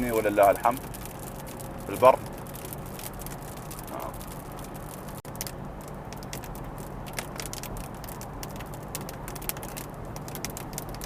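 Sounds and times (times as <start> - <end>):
car driving hum: 0.0 - 11.0
rain ticking on car windshield: 0.0 - 11.0.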